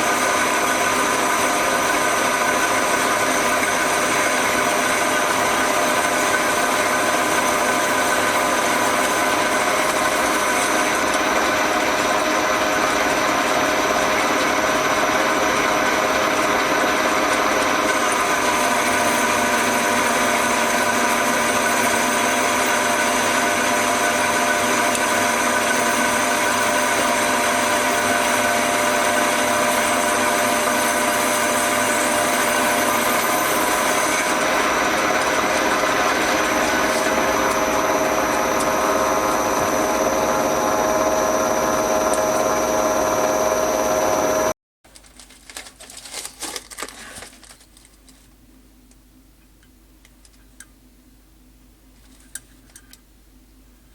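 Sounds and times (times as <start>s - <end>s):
metal lathe humming: 0.0s - 44.5s.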